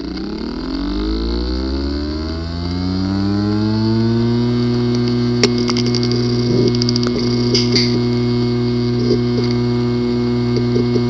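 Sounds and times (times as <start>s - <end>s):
hard disk drive whine: 0.0s - 11.0s.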